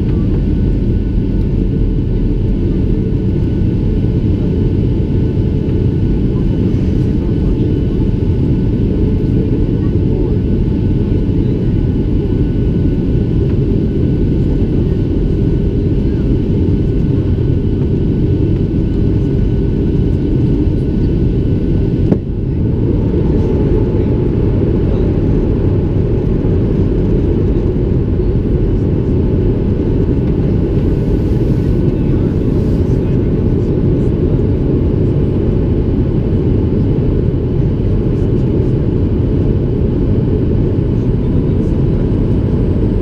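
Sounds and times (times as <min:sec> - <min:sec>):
airplane cabin engine rumble: 0:00.0 - 0:43.0.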